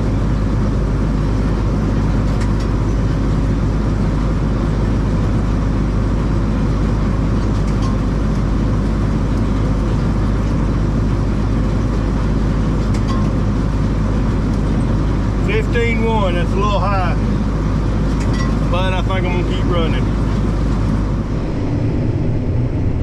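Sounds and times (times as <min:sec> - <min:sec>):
combine harvester drone: 0:00.0 - 0:23.0.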